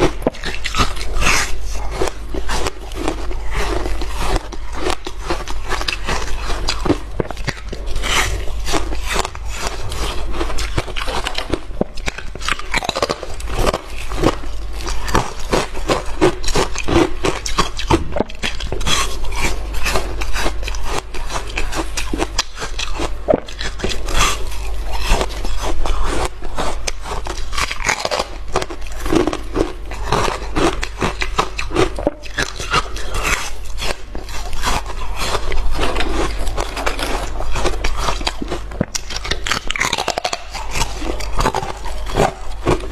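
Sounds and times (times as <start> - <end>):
person chewing ice: 0.0 - 42.9.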